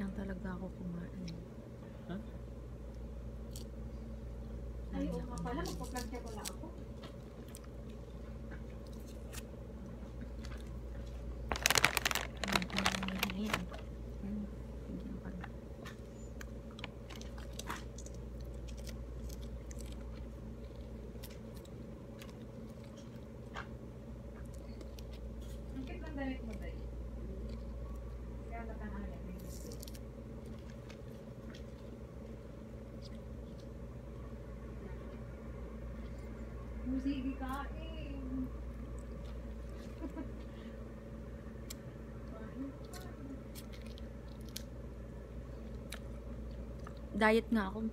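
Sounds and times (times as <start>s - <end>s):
steady low hum: 0.0s - 47.9s
fruit segments ticking and crackling: 2.8s - 37.9s, 41.2s - 47.6s.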